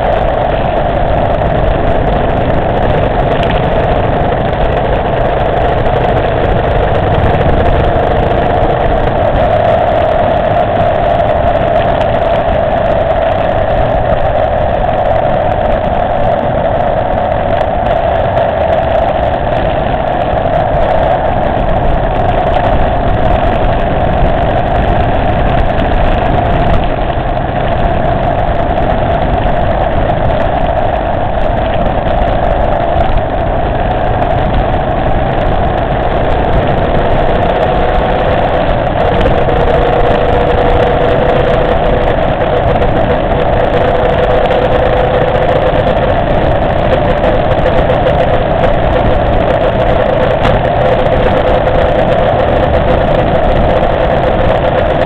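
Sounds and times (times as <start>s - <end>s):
motorcycle engine drone: 0.0s - 55.0s
road noise: 0.0s - 55.0s.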